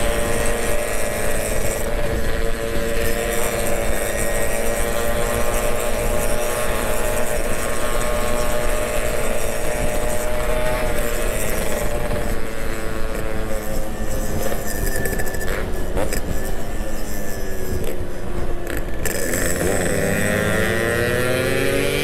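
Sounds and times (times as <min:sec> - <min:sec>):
motorcycle engine cruising: 0:00.0 - 0:22.0
wind rumbling on microphone: 0:00.0 - 0:22.0.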